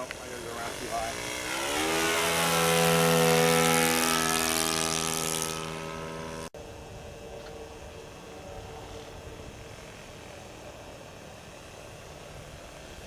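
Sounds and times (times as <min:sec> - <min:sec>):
model airplane engine at high throttle: 0:00.0 - 0:13.0.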